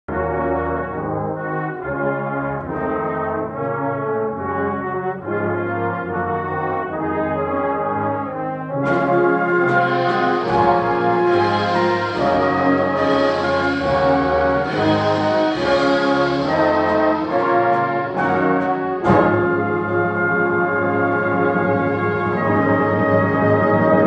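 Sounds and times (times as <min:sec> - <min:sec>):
brass band playing sustained chords: 0:00.1 - 0:24.0.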